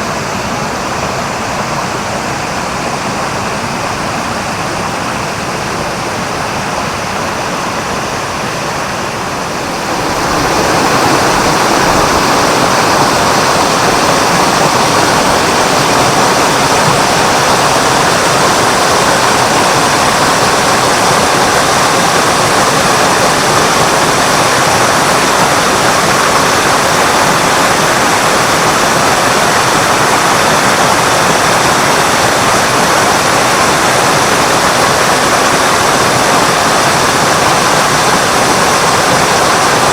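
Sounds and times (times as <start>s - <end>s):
waterfall gushing over rock: 0.0s - 39.9s.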